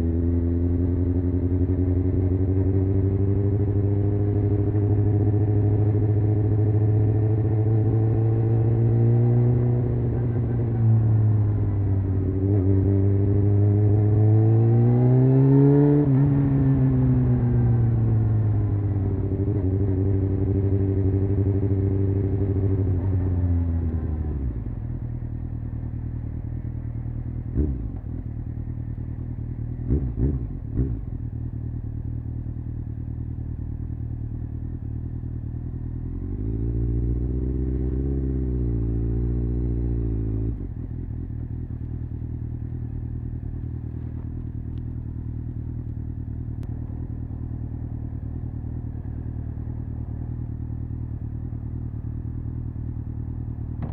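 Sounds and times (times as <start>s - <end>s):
motorcycle engine revving and idling: 0.0s - 53.9s.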